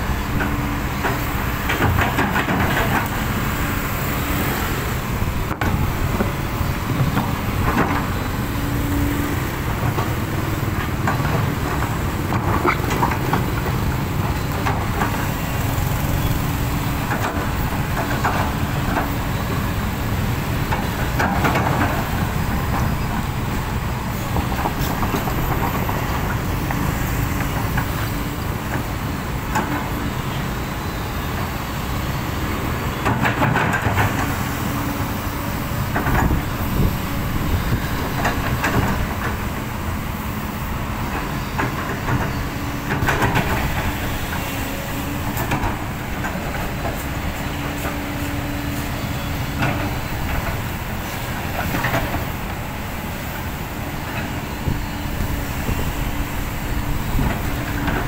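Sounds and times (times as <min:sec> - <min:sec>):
diesel construction machinery running: 0:00.0 - 0:58.0.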